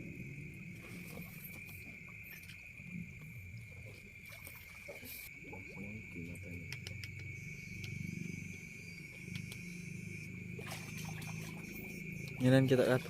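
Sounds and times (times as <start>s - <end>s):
crickets chirring: 0.0s - 13.0s
low rumbling and sloshing: 0.0s - 13.0s.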